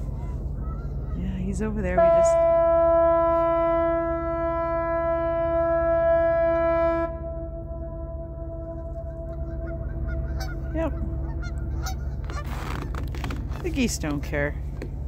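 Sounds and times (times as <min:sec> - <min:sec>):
ship's horn blast: 0:01.8 - 0:14.6.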